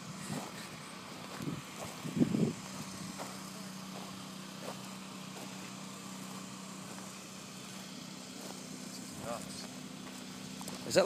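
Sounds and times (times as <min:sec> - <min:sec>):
engine idling hum: 0:00.0 - 0:11.0.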